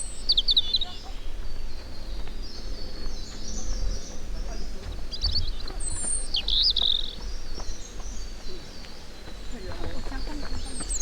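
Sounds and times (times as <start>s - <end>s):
bird warbling trill: 0.0s - 11.0s
songbirds chirping: 0.0s - 11.0s
steady low rumble: 0.0s - 11.0s.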